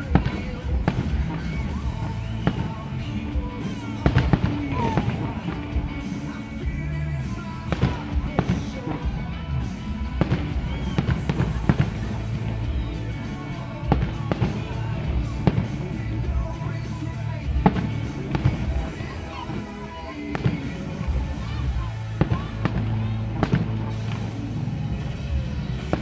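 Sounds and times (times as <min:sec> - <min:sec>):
fireworks bursting with booms: 0:00.0 - 0:26.0
music playing: 0:00.0 - 0:26.0.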